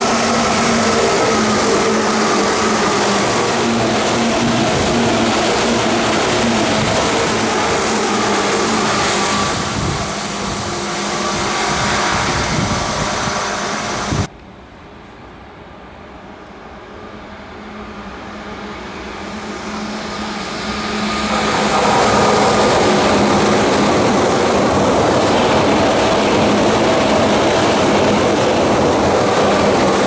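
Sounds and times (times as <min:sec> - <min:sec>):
electric train motor whine: 0:00.0 - 0:14.3, 0:17.5 - 0:30.0
train running rumble: 0:00.0 - 0:14.3, 0:16.6 - 0:30.0.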